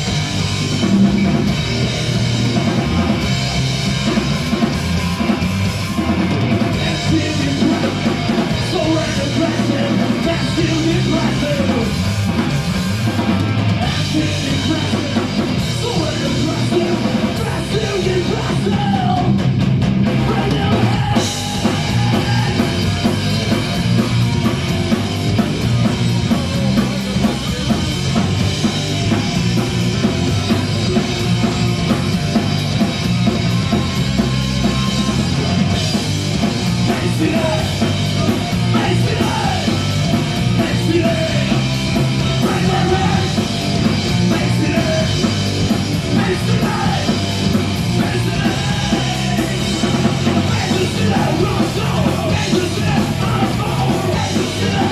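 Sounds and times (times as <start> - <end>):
heavy rock band playing: 0.0 - 54.9.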